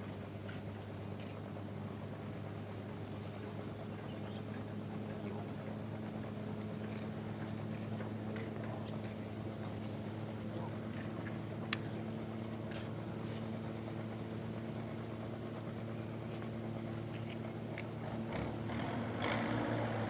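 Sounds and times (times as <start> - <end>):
engine idling: 0.1 - 20.0.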